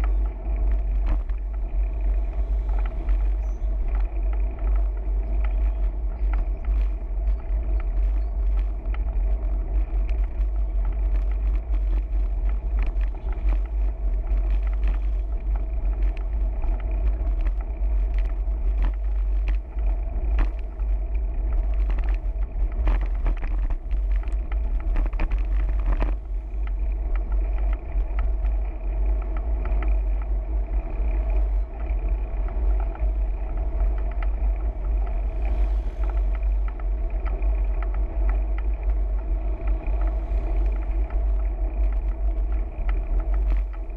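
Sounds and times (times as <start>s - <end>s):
road noise: 0.0s - 43.9s
scattered clicks: 0.0s - 43.9s
wind buffeting microphone: 0.0s - 43.9s.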